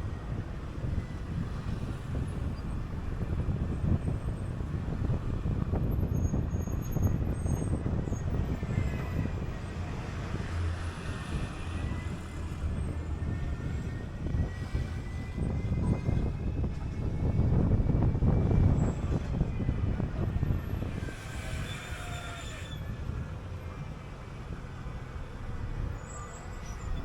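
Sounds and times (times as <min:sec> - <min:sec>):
bus engine and road noise: 0:00.0 - 0:27.0.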